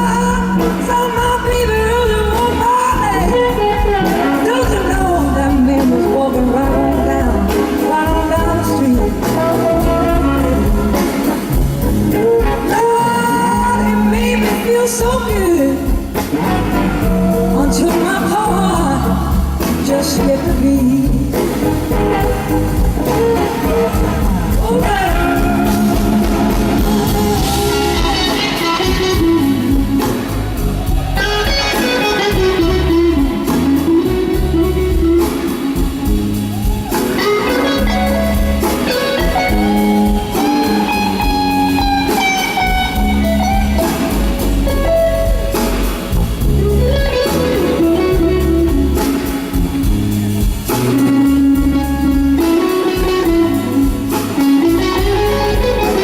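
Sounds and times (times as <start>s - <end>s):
electric guitar lead: 0.0s - 56.0s
live blues band playing: 0.0s - 56.0s.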